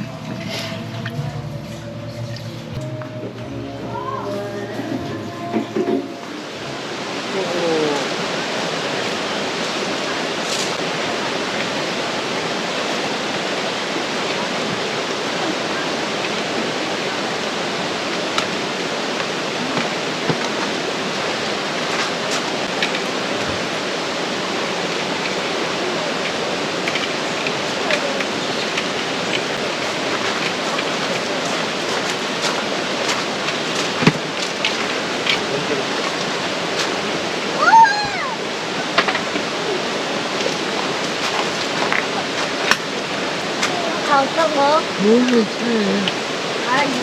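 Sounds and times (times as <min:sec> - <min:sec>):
stream rushing: 0:00.0 - 0:47.0.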